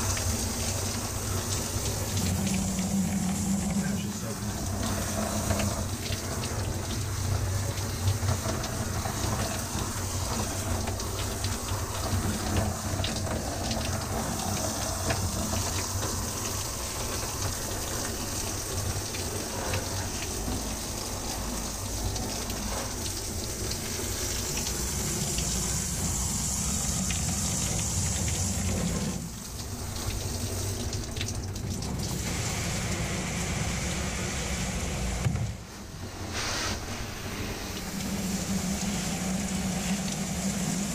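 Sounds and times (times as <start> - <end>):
shower head spraying water: 0.0 - 35.3, 36.1 - 40.9.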